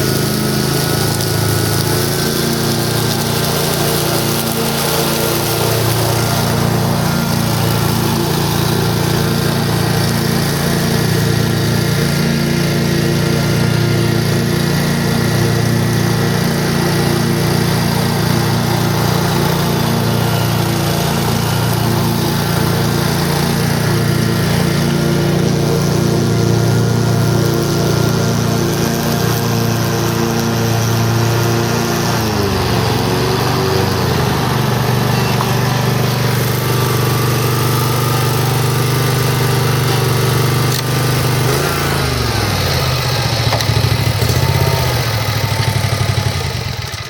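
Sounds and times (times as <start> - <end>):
lawn mower engine running: 0.0 - 47.0.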